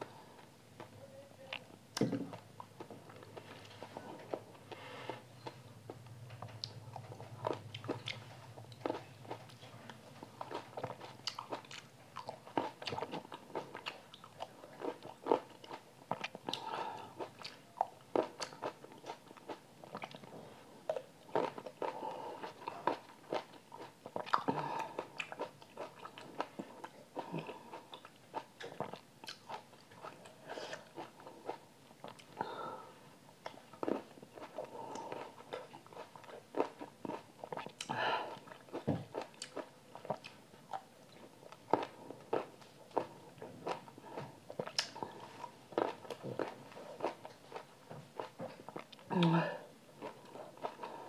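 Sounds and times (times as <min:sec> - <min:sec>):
chewing grapes crunches: 0:06.4 - 0:32.4, 0:33.4 - 0:49.4, 0:50.0 - 0:51.0.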